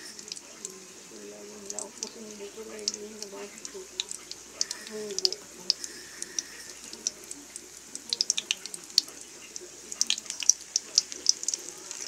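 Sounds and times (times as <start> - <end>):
hotdogs sizzling in oil: 0.0 - 12.0
oil crackling and popping: 0.0 - 12.0.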